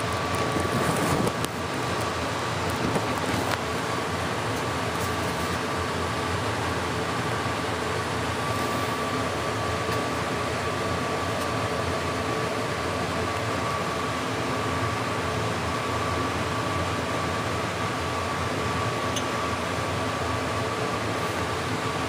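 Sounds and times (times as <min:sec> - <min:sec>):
fan humming: 0:00.0 - 0:22.0.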